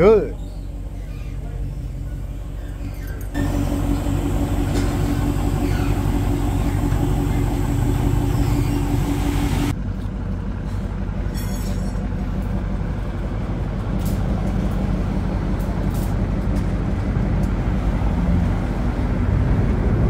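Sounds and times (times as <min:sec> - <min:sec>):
car engine idling deep rumble: 0:00.0 - 0:20.0.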